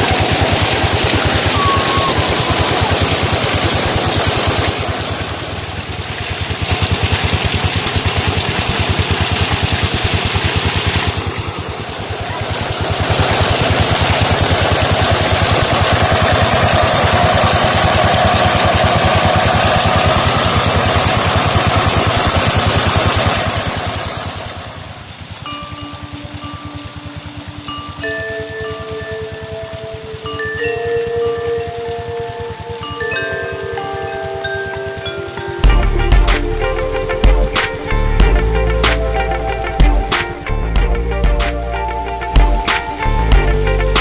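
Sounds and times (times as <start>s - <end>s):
diesel engine chugging: 0.0s - 44.0s.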